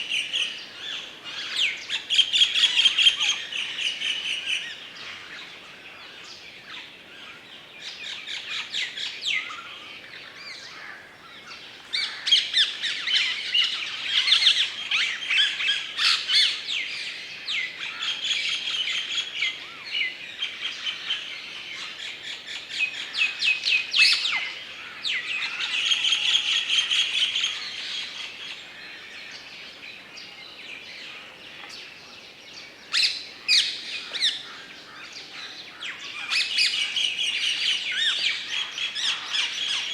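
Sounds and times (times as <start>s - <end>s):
birds chirping and trilling: 0.1s - 39.9s.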